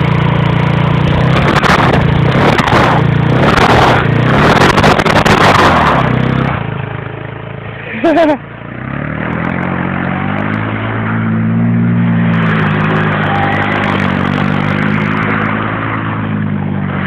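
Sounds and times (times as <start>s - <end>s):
moped engine revving: 0.0s - 17.0s
tire spinning in snow: 0.0s - 17.0s.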